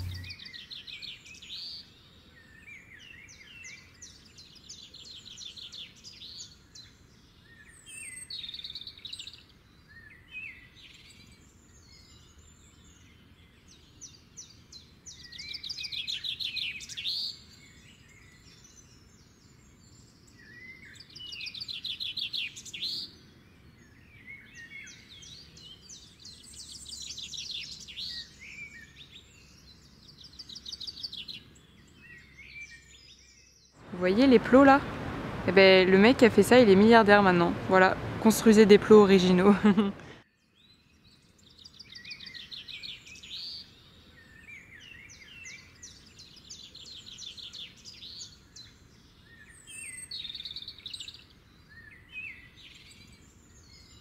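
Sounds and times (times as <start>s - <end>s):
faint outdoor background noise: 0.0s - 54.0s
songbirds singing trilled phrases: 0.0s - 54.0s.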